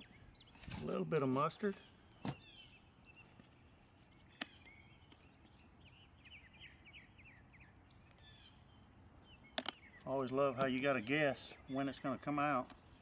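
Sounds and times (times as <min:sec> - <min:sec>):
faint bird chirping: 0:01.6 - 0:12.2.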